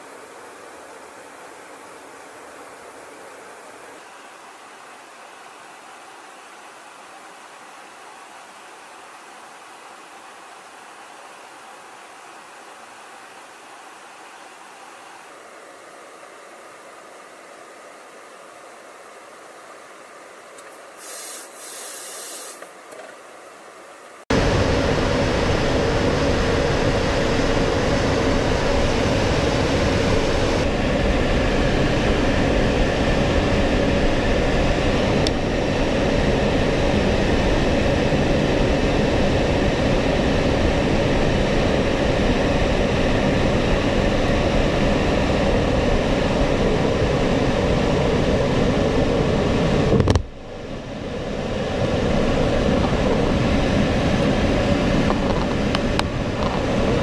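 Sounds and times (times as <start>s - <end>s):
aircraft engine drone: 0.0s - 22.9s, 23.5s - 57.0s.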